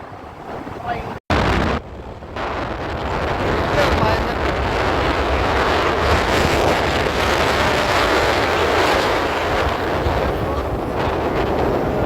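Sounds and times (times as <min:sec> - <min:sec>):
vehicle road noise: 0:00.0 - 0:12.0
wind on microphone: 0:00.0 - 0:12.0.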